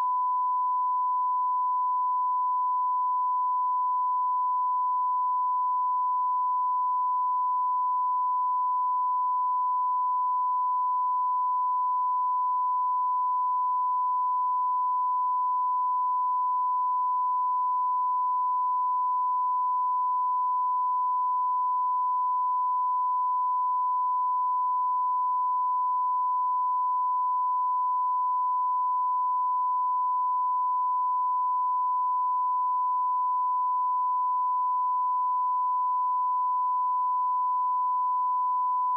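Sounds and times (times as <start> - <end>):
steady test tone beep: 0.0 - 38.9.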